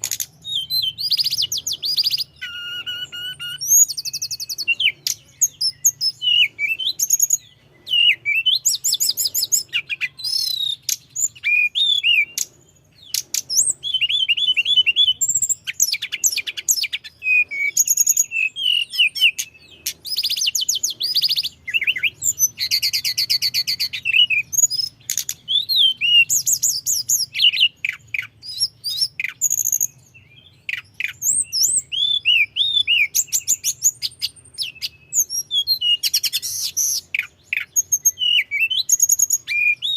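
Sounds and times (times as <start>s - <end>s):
songbird trilling and warbling: 0.0s - 39.9s.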